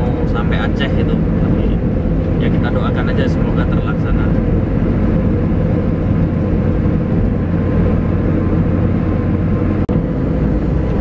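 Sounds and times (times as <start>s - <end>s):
tyres and engine drone: 0.0s - 11.0s.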